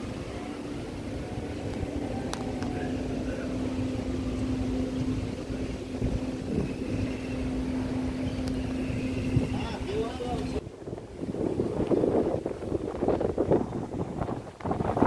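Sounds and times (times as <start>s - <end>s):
low engine hum: 0.0s - 15.0s
wind buffeting microphone: 0.0s - 15.0s.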